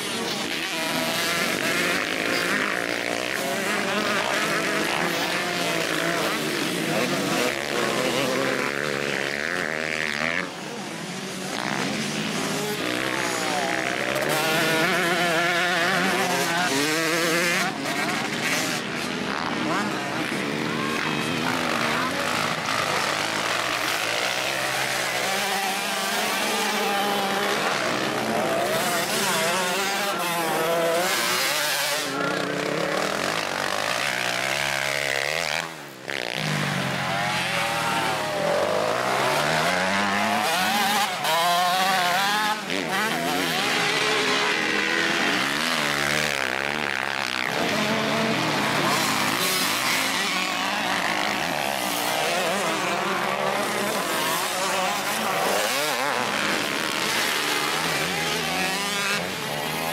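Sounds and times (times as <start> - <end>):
motocross engines revving: 0.0 - 59.9.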